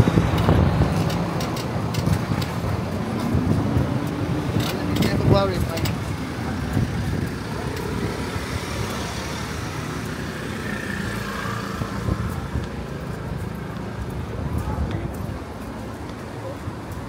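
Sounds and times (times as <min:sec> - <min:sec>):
cars driving past: 0:00.0 - 0:17.0
motor scooter passing: 0:00.0 - 0:17.0.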